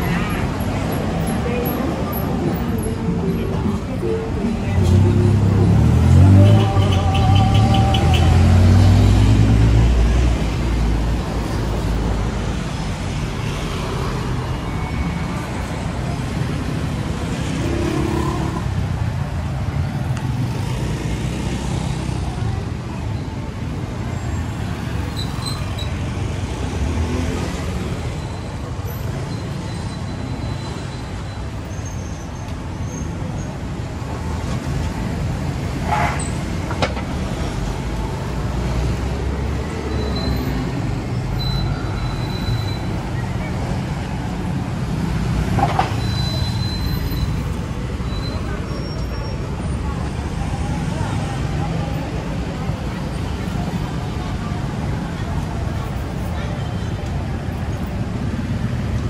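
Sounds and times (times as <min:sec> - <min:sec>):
traffic on busy road: 0:00.0 - 0:59.0.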